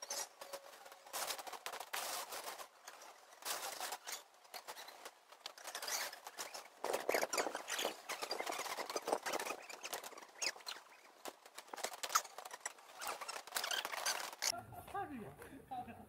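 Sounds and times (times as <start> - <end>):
nylon tent fabric rustling: 0.0 - 14.6.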